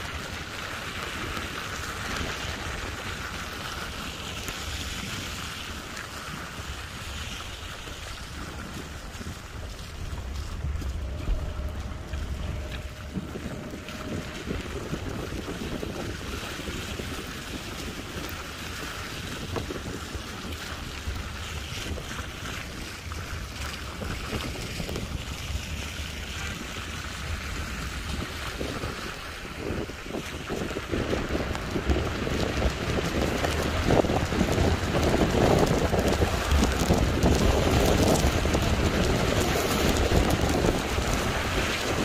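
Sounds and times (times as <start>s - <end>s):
rain on wet roads: 0.0s - 42.0s
wind buffeting microphone: 0.0s - 42.0s.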